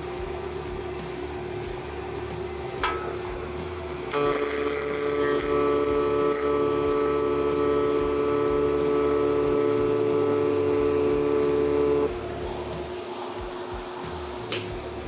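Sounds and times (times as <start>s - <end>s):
welding arc hissing and humming: 0.0s - 15.0s.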